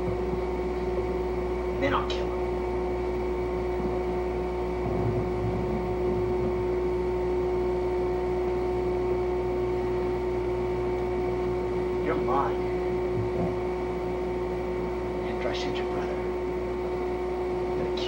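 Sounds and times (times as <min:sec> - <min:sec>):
electrical hum and hiss: 0:00.0 - 0:18.0.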